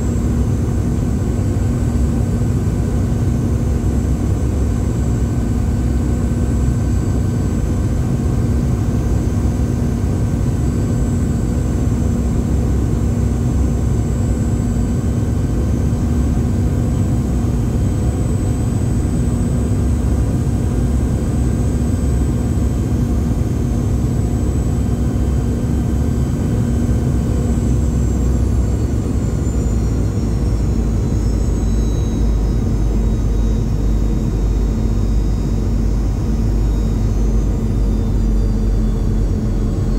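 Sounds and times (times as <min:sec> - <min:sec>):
high engine whine: 0:00.0 - 0:39.9
jet engine roar in cabin: 0:00.0 - 0:39.9.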